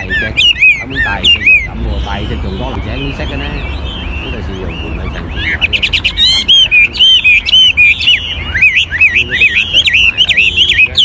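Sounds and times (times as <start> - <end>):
bird singing whistled notes: 0.0 - 11.0.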